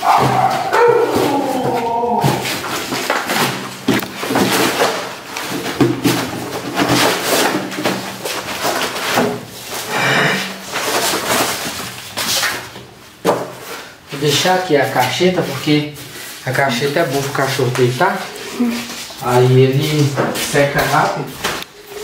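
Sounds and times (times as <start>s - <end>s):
cardboard rustling and scraping: 0.1s - 22.0s.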